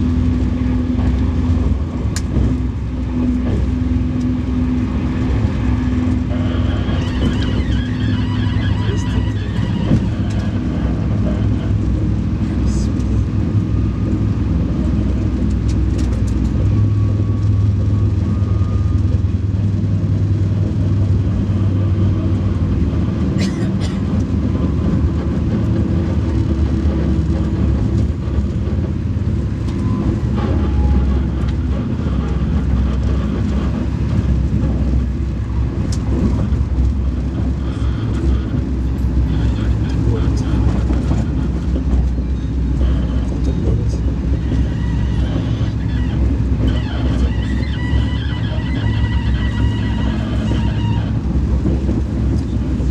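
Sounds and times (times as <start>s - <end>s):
train rumbling along track: 0.0s - 52.9s.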